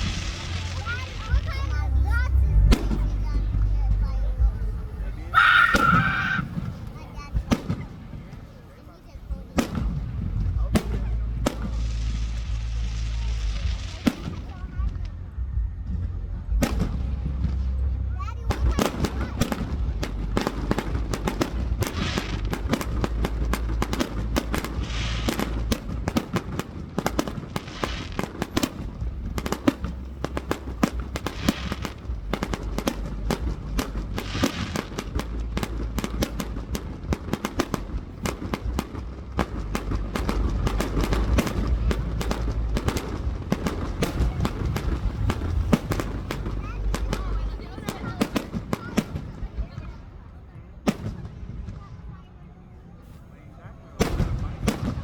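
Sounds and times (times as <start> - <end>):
low rumble: 0.0 - 48.0
fireworks bangs and crackling: 0.0 - 55.0.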